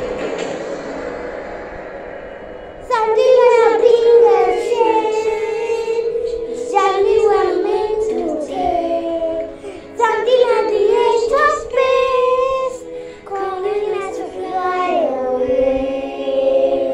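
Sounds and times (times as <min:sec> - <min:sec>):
recorded song with vocals: 0:00.0 - 0:16.9
girl singing into microphone: 0:02.8 - 0:16.9.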